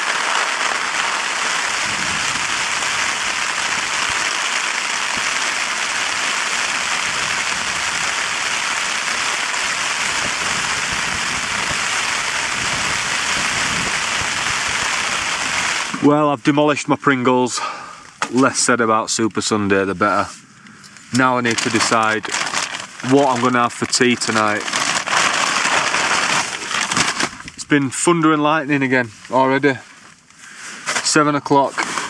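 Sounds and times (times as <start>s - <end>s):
rain on tent fabric: 0.0s - 16.2s, 20.9s - 32.0s.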